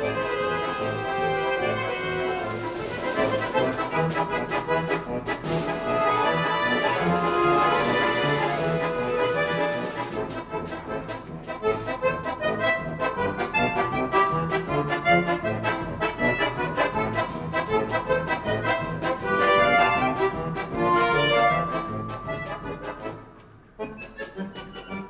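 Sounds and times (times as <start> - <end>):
accordion orchestra playing: 0.0 - 25.0.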